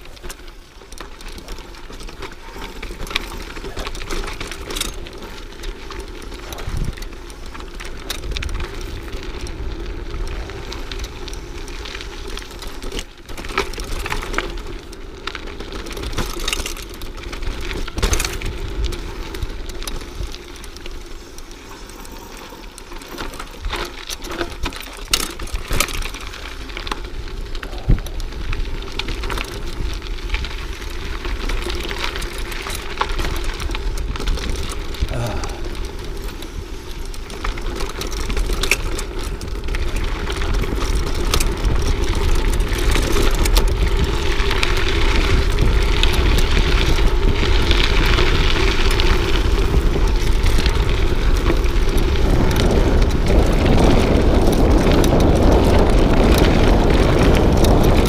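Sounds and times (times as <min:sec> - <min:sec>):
bike rattling over bumps: 0:00.0 - 0:58.0
bike tyres rumbling on dirt: 0:00.0 - 0:58.0.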